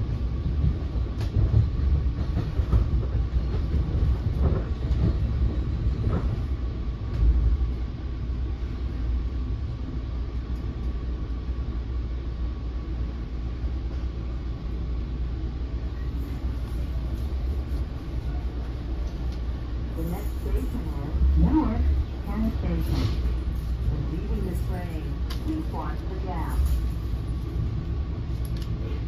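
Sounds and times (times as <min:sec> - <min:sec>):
train car rumbling on rails: 0:00.0 - 0:29.0.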